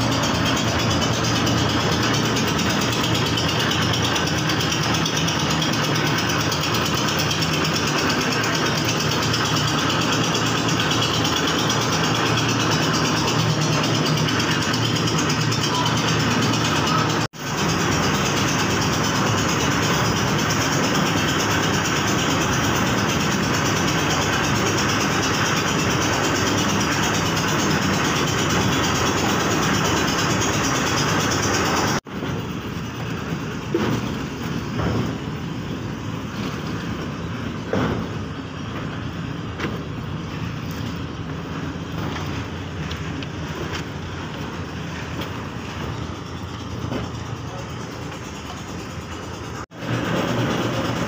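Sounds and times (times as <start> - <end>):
concrete mixer running: 0.0 - 51.0.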